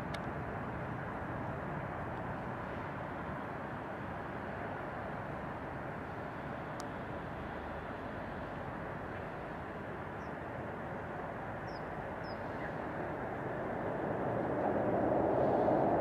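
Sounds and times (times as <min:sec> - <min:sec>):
distant traffic: 0:00.0 - 0:16.0
light-rail train on elevated track: 0:00.0 - 0:16.0.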